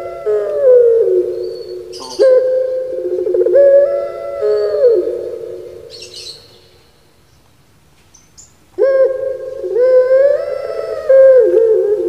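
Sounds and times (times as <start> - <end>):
dove cooing: 0.0 - 6.9, 8.8 - 12.0.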